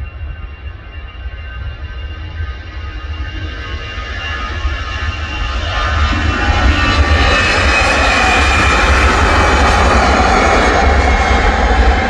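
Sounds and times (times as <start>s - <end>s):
jet airliner taking off: 0.0s - 12.0s.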